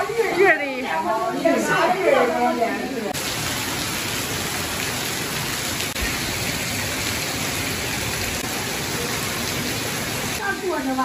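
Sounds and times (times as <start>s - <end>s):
heavy rain on metal roof: 0.0s - 11.0s
water pouring from spouts: 0.0s - 11.0s.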